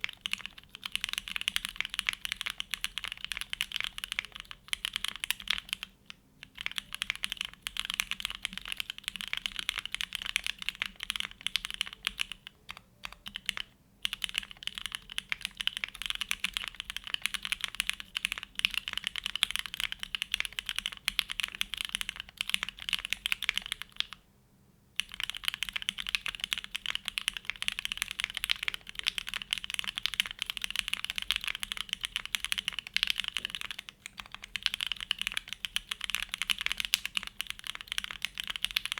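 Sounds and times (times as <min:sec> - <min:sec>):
fast mechanical keyboard typing: 0:00.0 - 0:24.2, 0:25.0 - 0:38.9.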